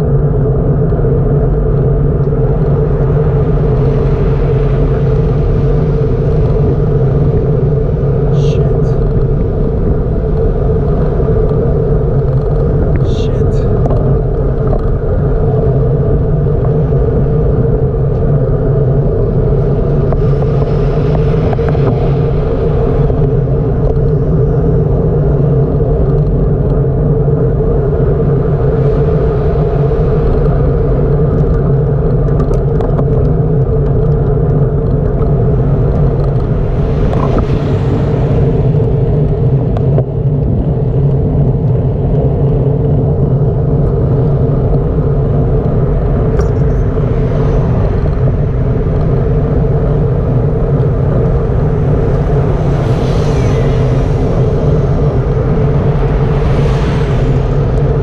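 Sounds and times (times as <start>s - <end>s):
constant hum: 0.0s - 58.0s
wind and road rumble: 0.0s - 58.0s.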